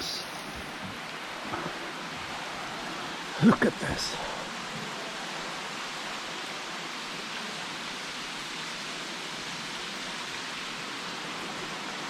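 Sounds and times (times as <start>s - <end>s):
water rushing in a rocky stream: 0.0s - 12.0s.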